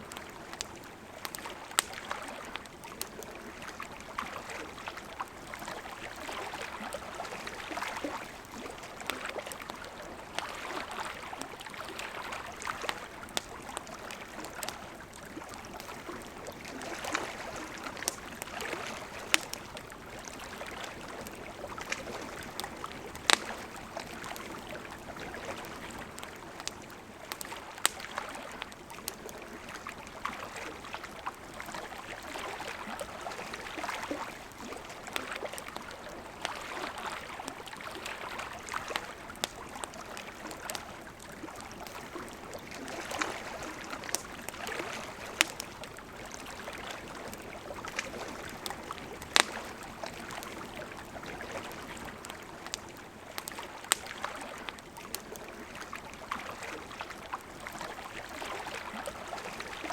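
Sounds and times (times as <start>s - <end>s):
campfire crackling and popping: 0.0s - 59.9s
river flowing: 0.0s - 59.9s.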